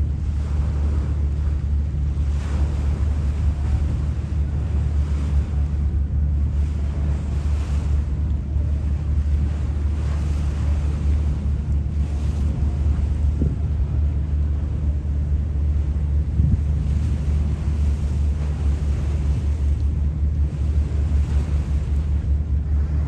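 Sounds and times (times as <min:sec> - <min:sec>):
low rumble: 0:00.0 - 0:23.0
wind rushing over microphone: 0:00.0 - 0:23.0.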